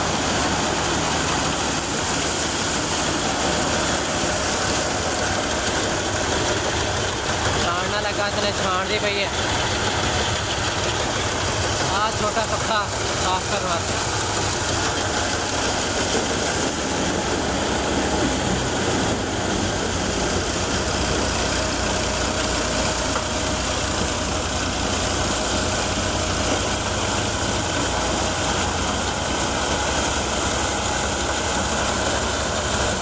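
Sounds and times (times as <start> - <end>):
thresher threshing grain: 0.0 - 33.0
tractor engine running under load: 0.0 - 33.0.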